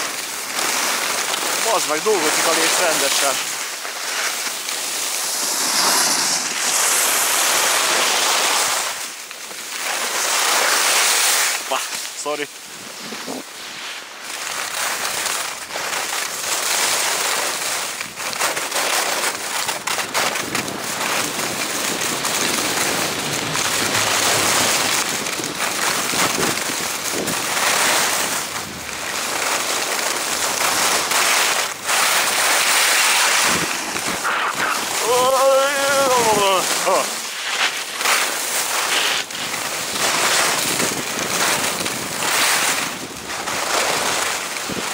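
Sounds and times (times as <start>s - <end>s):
skis scraping on icy snow: 0.0s - 44.9s.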